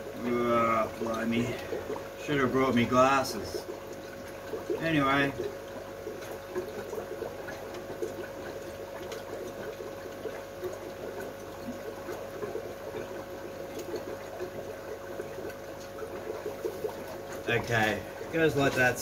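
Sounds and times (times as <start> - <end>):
steady hum: 0.0 - 19.0
water trickling and bubbling: 0.0 - 19.0.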